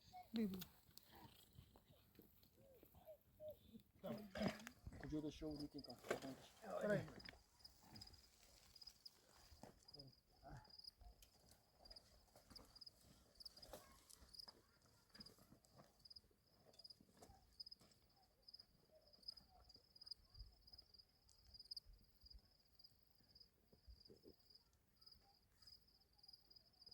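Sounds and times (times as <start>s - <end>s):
crickets chirping: 3.4s - 26.9s.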